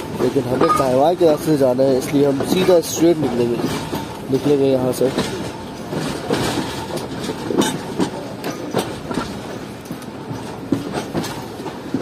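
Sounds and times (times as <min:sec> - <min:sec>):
train rumble and hiss: 0:00.0 - 0:12.0
train wheels clattering over joints: 0:00.0 - 0:12.0.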